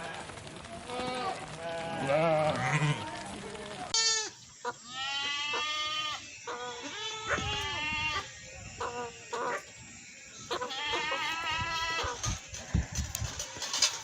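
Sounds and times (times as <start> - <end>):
livestock bleating: 0.9 - 9.7, 10.4 - 13.1.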